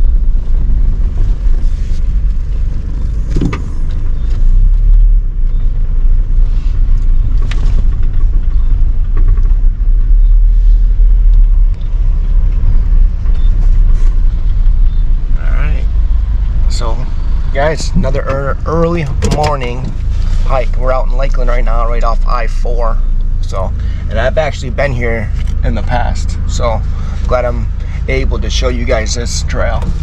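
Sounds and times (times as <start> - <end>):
road and engine rumble in car: 0.0 - 30.0.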